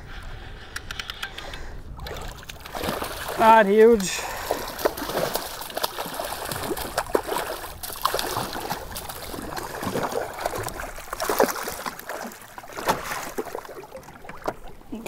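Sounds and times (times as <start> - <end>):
water lapping against a boat: 0.0 - 15.0
small splashes and knocks: 2.0 - 15.0.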